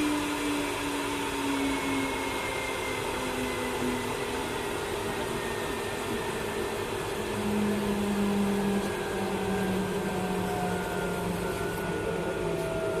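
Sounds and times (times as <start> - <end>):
wood lathe hum and whir: 0.0 - 13.0.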